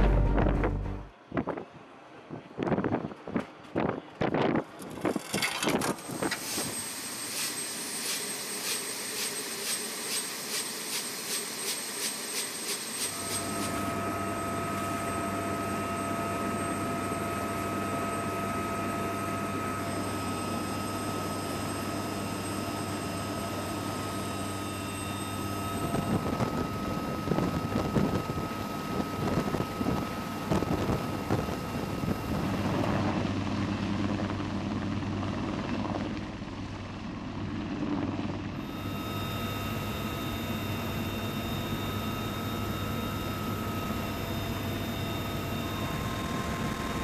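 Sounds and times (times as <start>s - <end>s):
helicopter turbine and rotor noise: 1.2s - 47.0s.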